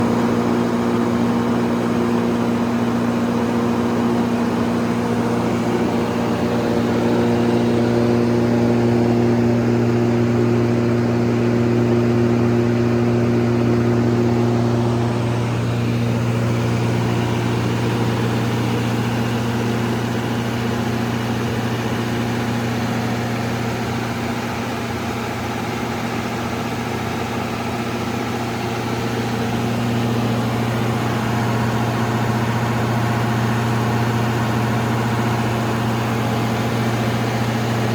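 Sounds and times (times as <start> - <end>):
diesel generator humming: 0.0 - 37.9.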